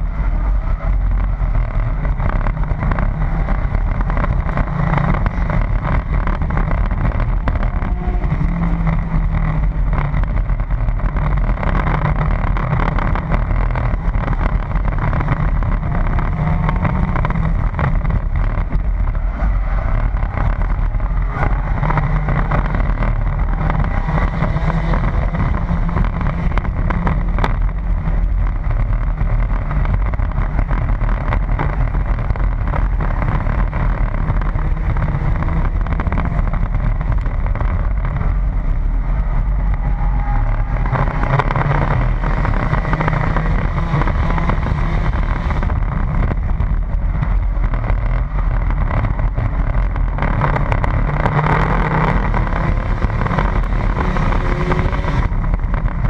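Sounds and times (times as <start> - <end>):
car engine running hard: 0.0 - 56.0
wind and road noise: 0.0 - 56.0.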